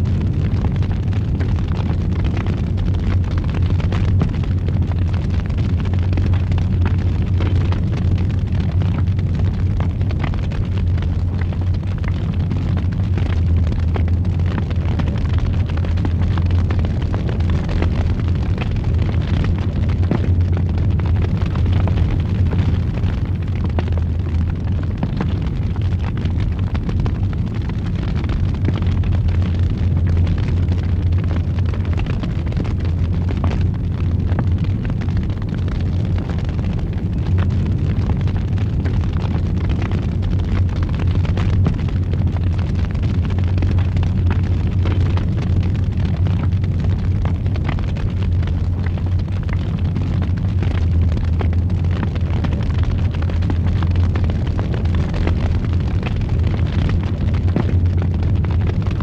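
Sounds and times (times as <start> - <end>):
fire roaring and crackling: 0.0 - 59.0.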